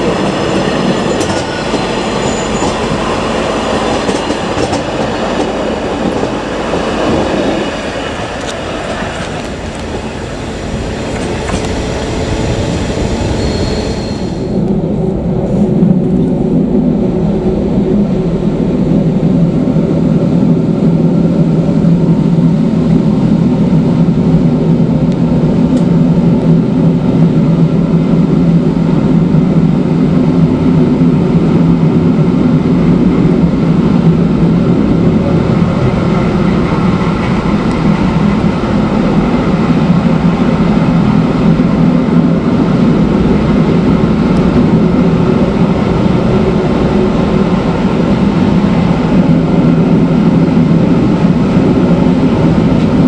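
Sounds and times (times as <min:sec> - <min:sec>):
train wheels droning on rail: 0:00.0 - 0:53.0.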